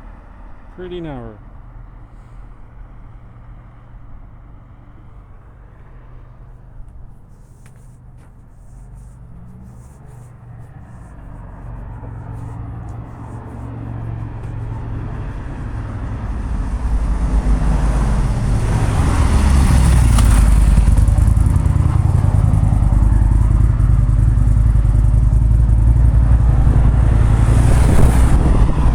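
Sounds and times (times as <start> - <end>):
vehicle rumble approaching: 0.0 - 28.9.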